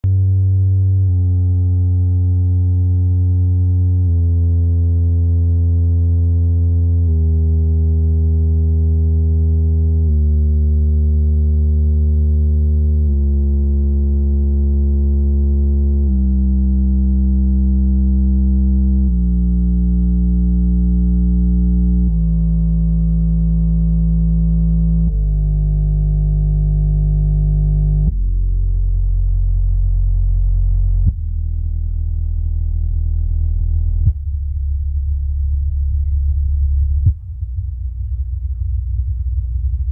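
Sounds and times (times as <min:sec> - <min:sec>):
subwoofer playing low test tones: 0:00.0 - 0:39.9.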